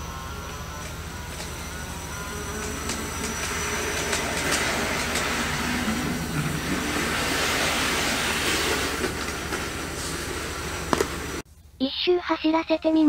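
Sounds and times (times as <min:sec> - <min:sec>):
model train motor whine: 0:00.0 - 0:11.4
wheels rattling on track: 0:00.0 - 0:11.4.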